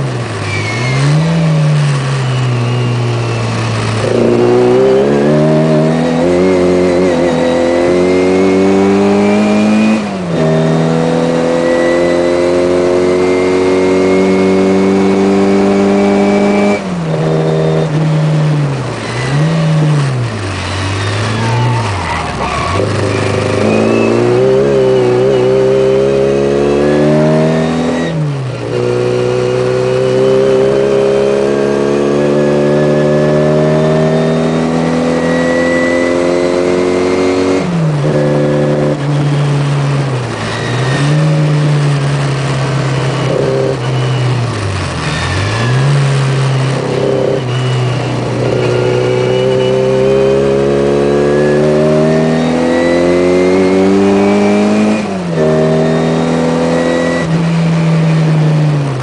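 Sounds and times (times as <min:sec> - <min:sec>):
car engine revving hard: 0:00.0 - 0:59.0.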